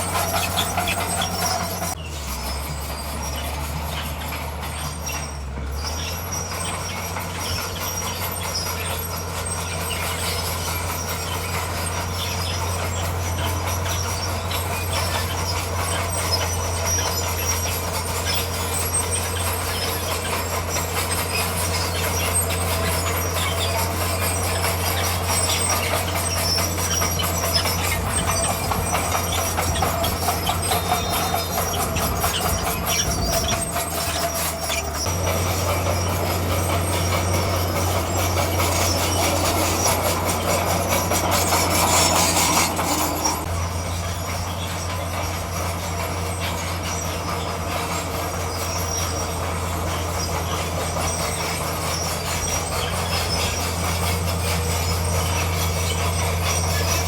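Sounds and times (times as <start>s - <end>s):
bulldozer diesel engine running: 0.0s - 57.0s
steel tracks clanking over stone: 0.0s - 57.0s.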